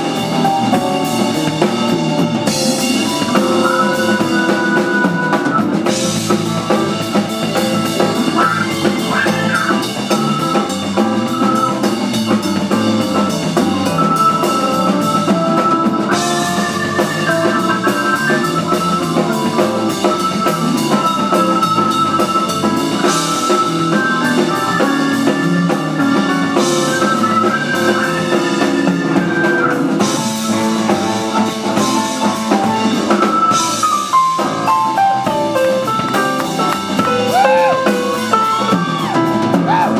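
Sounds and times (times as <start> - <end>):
drum kit: 0.0 - 39.9
electric bass: 0.0 - 39.9
electric guitar: 0.0 - 39.9
organ: 0.0 - 39.9
piano: 0.0 - 39.9.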